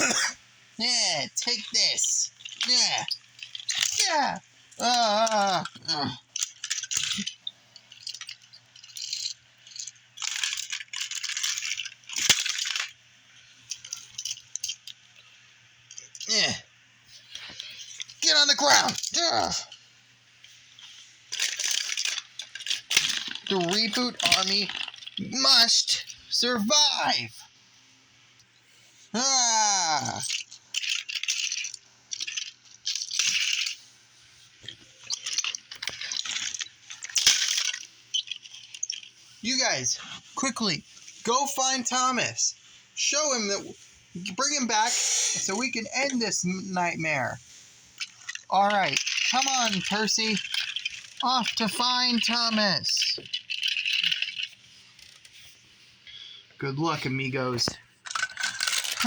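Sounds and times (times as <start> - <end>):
toy trains clattering: 0.0 - 27.2, 29.2 - 59.0.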